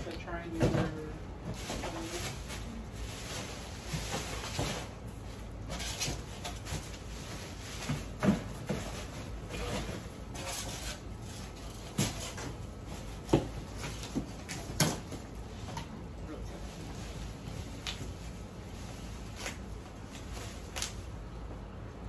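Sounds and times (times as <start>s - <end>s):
plastic and cardboard rustling: 0.0s - 21.8s.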